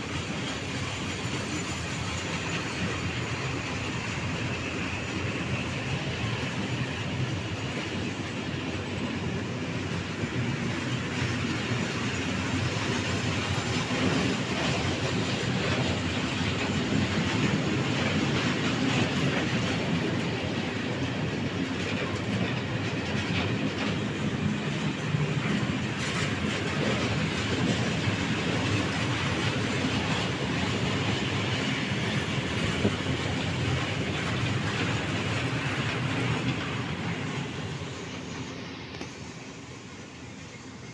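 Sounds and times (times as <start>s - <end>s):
wheel clatter over rail joints: 0.0s - 39.7s
freight train rolling past: 0.0s - 40.9s.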